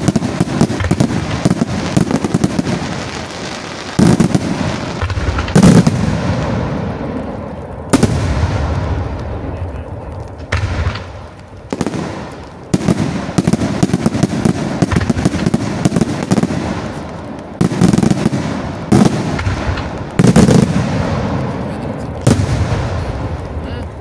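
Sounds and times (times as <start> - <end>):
fireworks bursting with bangs and crackles: 0.0 - 24.0.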